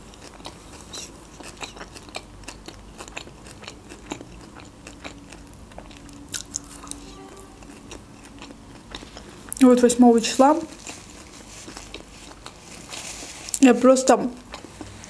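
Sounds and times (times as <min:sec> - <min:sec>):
close-up chewing: 0:00.0 - 0:09.6, 0:10.6 - 0:13.6, 0:14.4 - 0:15.0.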